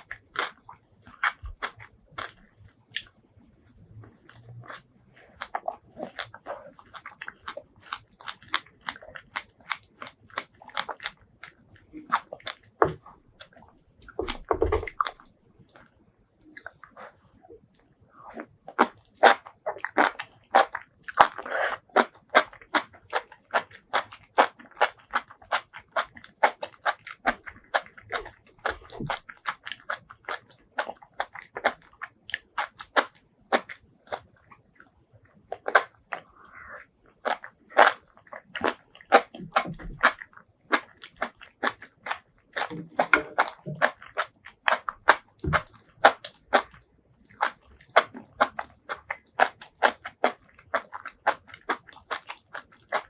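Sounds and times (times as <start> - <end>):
chewing and biting food: 0.0 - 53.0.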